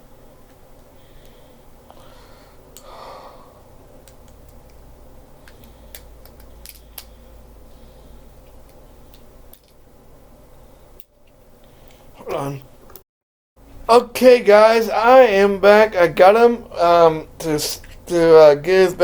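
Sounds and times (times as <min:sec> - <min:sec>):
low steady hum: 0:00.0 - 0:13.0, 0:13.6 - 0:19.0.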